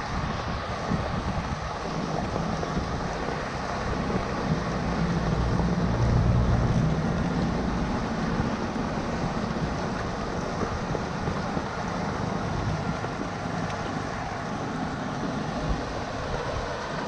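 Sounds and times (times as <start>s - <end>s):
rainwater gurgling into drain: 0.0s - 17.0s.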